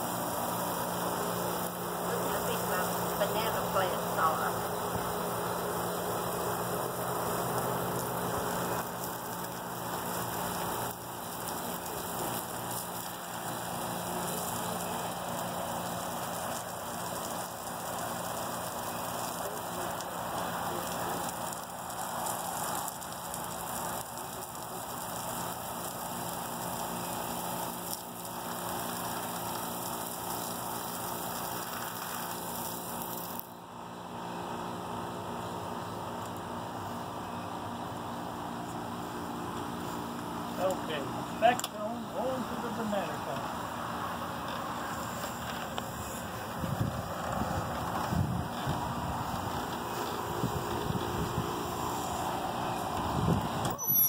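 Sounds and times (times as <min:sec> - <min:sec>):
hose water spraying on grass: 0:00.0 - 0:37.1, 0:38.0 - 0:54.0.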